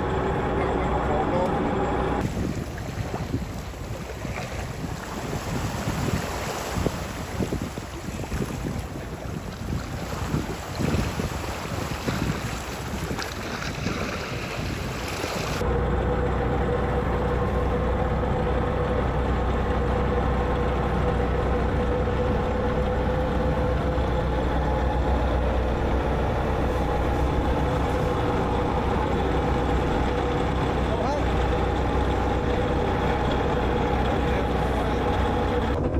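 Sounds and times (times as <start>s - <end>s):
boat engine droning: 0.0s - 35.9s
sea noise: 0.0s - 35.9s
wind: 0.0s - 35.9s.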